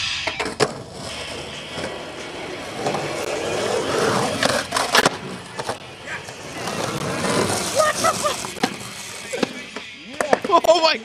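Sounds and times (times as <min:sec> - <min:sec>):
skateboard clacking: 0:00.2 - 0:10.8
skateboard wheels rolling: 0:00.2 - 0:10.9
skateboard trucks grinding concrete: 0:00.4 - 0:10.8.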